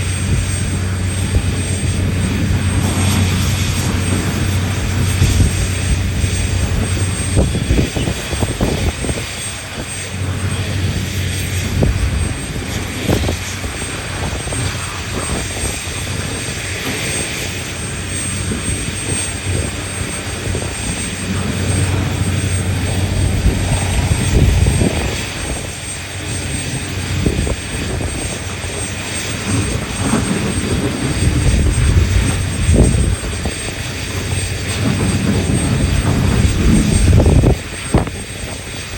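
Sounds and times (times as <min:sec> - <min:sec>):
large diesel engines droning: 0:00.0 - 0:38.9.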